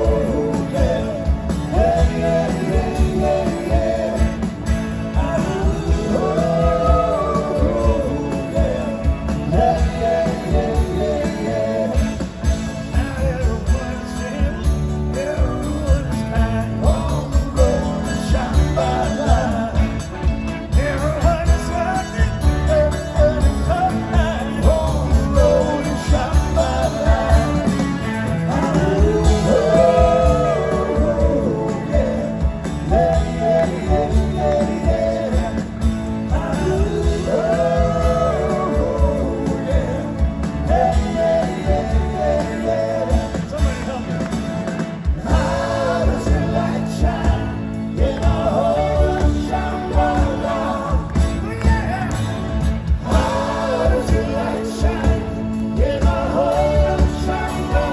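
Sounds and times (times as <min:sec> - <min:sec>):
backing vocals: 0:00.0 - 0:57.9
lead singer singing: 0:00.0 - 0:57.9
live rock band playing: 0:00.0 - 0:57.9
steady drum beat: 0:00.0 - 0:57.9.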